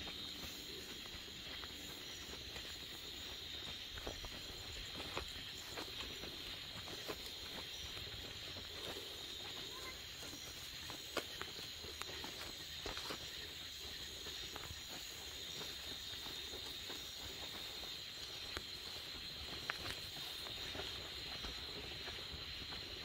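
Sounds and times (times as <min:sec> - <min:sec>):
footsteps through grass: 0:00.0 - 0:23.0
night insects chorus: 0:00.0 - 0:23.0.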